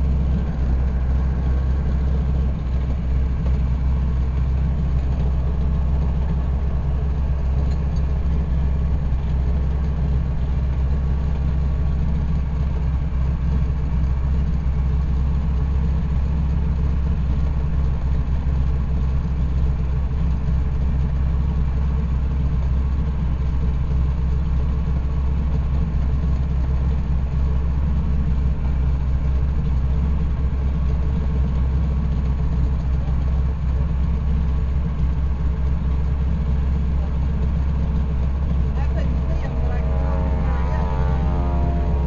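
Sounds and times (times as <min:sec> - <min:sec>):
aircraft engine droning in flight: 0:00.0 - 0:42.0.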